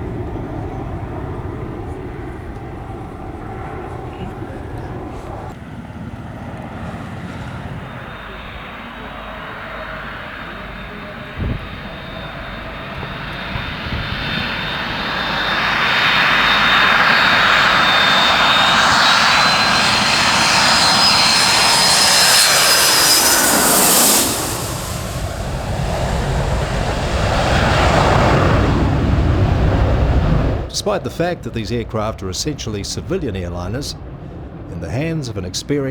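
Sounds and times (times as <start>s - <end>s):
jet plane flying past: 0.0s - 35.9s.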